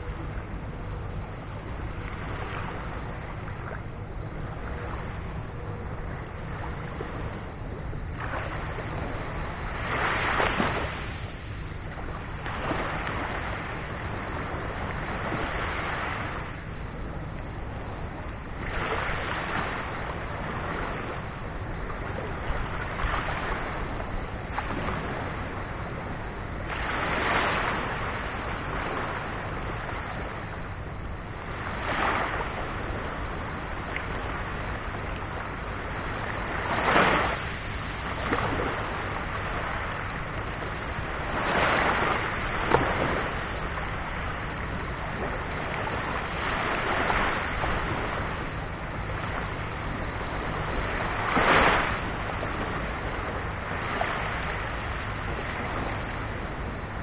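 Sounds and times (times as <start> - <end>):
small waves washing up beach: 0.0 - 57.0
steady low rumble: 0.0 - 57.0.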